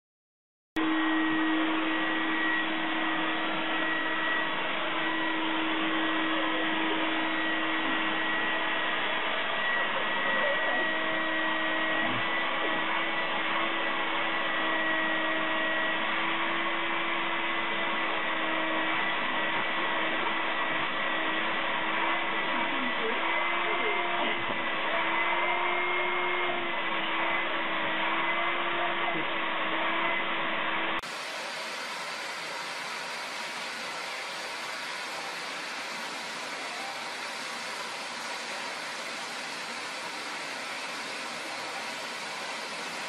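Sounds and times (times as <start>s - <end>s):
electric motor whirring: 0.8s - 43.0s.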